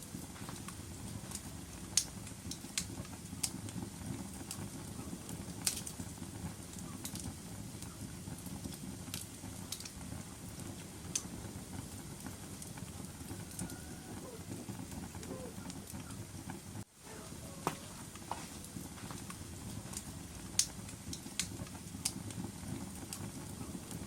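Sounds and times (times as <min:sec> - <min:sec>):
fire pops and snaps: 0:00.0 - 0:16.9, 0:17.5 - 0:24.0
wood fire crackling: 0:00.0 - 0:24.0.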